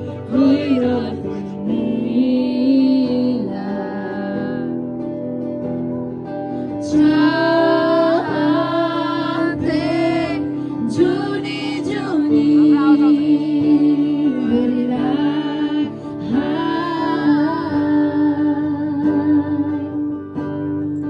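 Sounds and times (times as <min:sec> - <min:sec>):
person singing long notes: 0:00.0 - 0:05.0, 0:06.8 - 0:20.2
instrumental held chords: 0:00.0 - 0:21.0.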